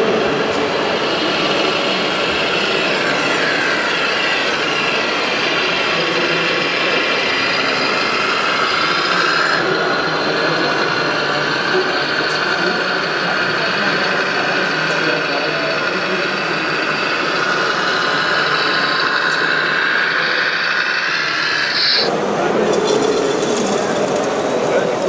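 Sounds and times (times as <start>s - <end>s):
model vehicle motors whining: 0.0s - 25.0s
steady background noise: 0.0s - 25.0s.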